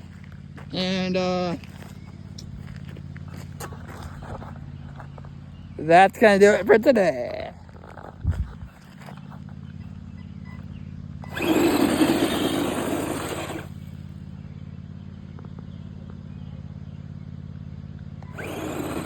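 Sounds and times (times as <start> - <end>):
rc car motor and tyres: 0.0 - 19.0
steady low hum: 0.0 - 19.0.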